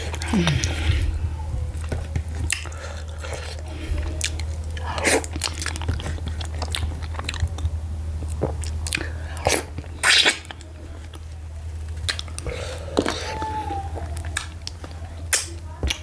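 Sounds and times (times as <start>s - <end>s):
steady low hum: 0.0s - 16.0s
wet chewing and lip smacks: 1.7s - 11.3s, 11.9s - 13.4s, 14.0s - 16.0s.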